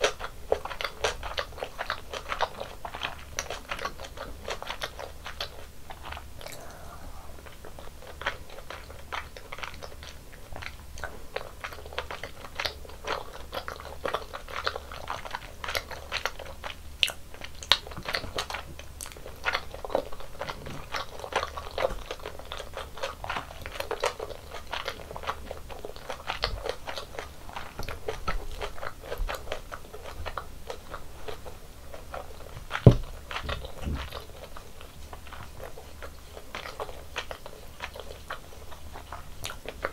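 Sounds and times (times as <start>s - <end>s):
chewing and biting: 0.0s - 39.9s
wet mouth clicks: 0.0s - 39.9s.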